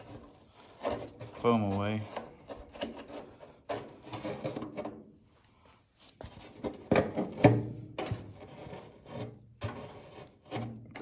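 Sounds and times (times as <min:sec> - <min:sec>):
foam being scraped by hand: 0:00.0 - 0:04.8, 0:06.0 - 0:11.0.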